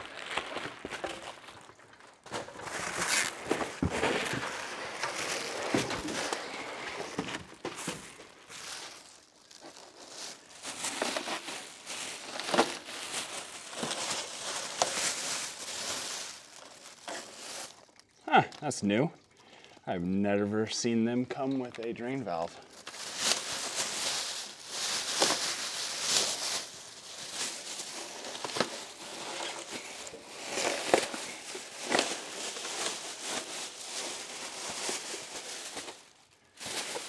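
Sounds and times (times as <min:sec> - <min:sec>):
plastic packaging crinkling: 0:00.0 - 0:18.2, 0:21.7 - 0:37.0.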